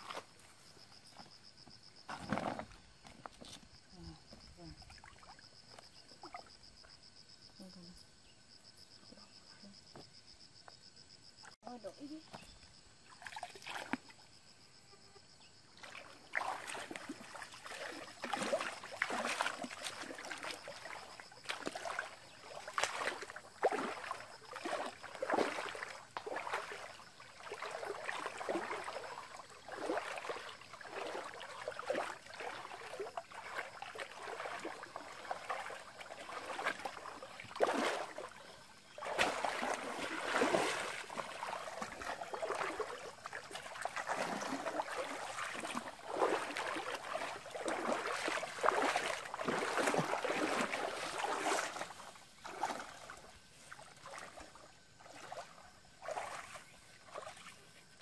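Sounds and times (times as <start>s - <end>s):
feet splashing through water: 0.0s - 3.5s, 4.1s - 6.8s, 13.0s - 14.2s, 15.8s - 58.0s.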